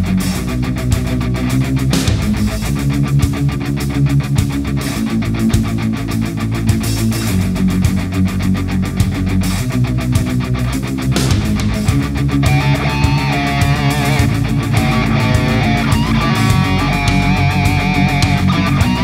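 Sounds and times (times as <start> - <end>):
heavy rock music with electric guitar: 0.0 - 19.0.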